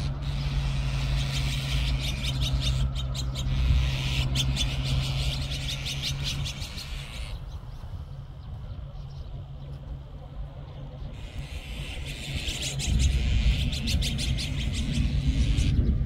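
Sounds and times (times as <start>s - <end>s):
magpies chattering: 0.0s - 7.8s, 11.0s - 16.0s
low traffic hum: 0.0s - 16.0s.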